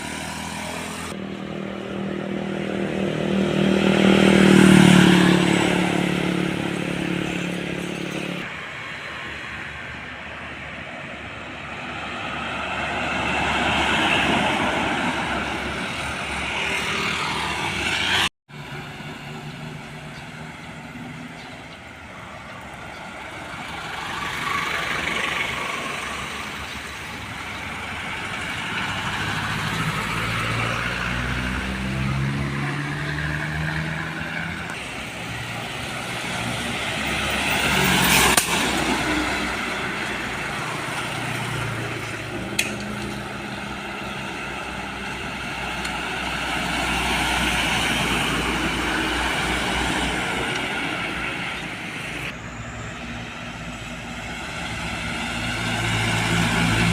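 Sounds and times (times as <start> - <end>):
heavy diesel trucks passing: 0.0 - 56.9.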